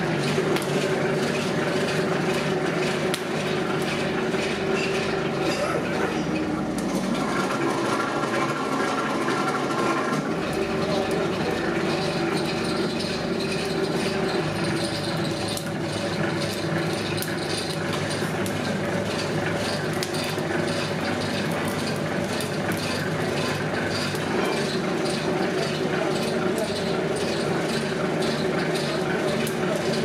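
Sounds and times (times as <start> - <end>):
rubber mill mechanical noise: 0.0 - 30.0
irregular clicks and clatter: 0.1 - 30.0.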